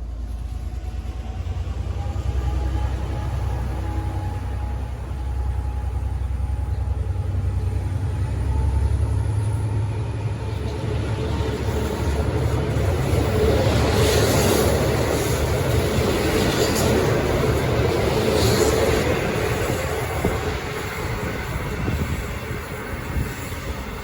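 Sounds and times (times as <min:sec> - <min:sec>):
train clatter: 0:00.0 - 0:24.0
train low rumble: 0:00.0 - 0:24.0
train wheels on rails: 0:00.0 - 0:24.0.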